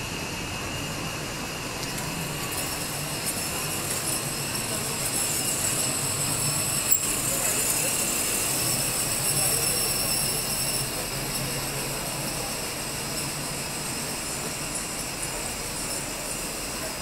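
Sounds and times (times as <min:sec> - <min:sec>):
faint crowd chatter: 0:00.0 - 0:17.0.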